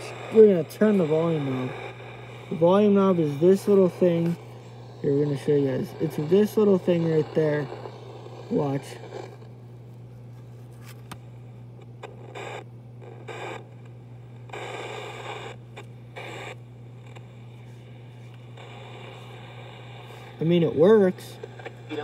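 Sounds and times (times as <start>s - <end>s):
crackly radio static: 0.0s - 22.0s
low hum: 0.0s - 22.0s.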